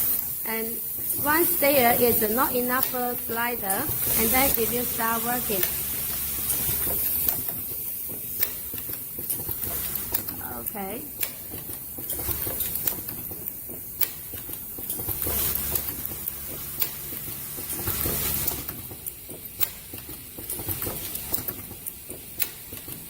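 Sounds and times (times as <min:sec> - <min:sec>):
machine clicking and ticking: 0:00.0 - 0:23.0
steady hiss: 0:00.0 - 0:23.0.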